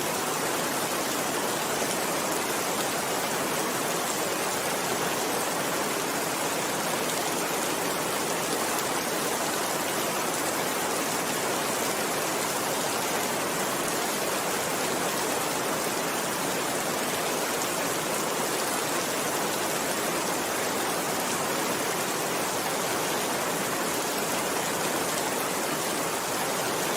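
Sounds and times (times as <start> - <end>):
heavy rainfall: 0.0 - 26.9.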